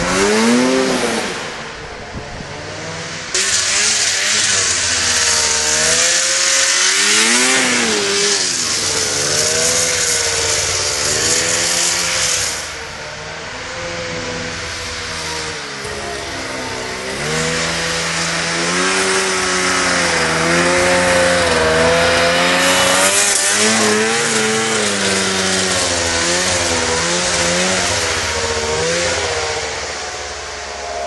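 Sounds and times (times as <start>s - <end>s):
snowmobile engine revving: 0.0s - 31.0s.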